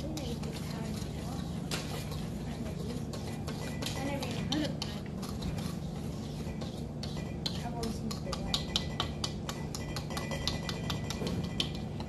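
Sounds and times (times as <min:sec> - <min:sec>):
whisk clicking against metal bowl: 0:00.0 - 0:12.0.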